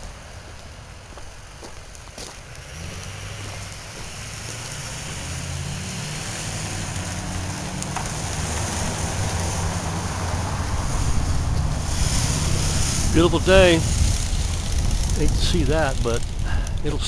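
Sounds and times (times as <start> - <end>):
outdoor noise hiss: 0.0 - 17.0
vehicle engine rumble: 0.0 - 17.0.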